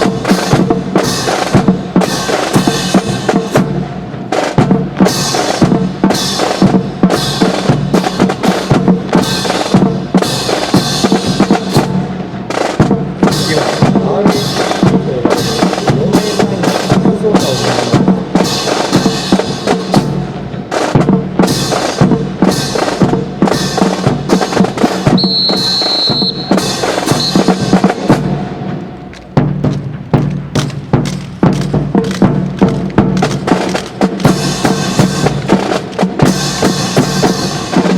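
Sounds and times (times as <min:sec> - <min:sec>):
marching snare and bass drums: 0:00.0 - 0:37.9.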